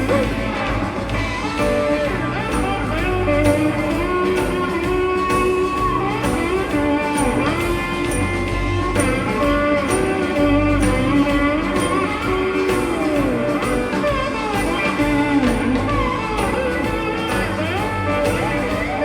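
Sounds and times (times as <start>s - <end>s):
bass guitar: 0.0s - 19.0s
drum beat with cymbals: 0.0s - 19.0s
electric lead guitar: 0.0s - 19.0s.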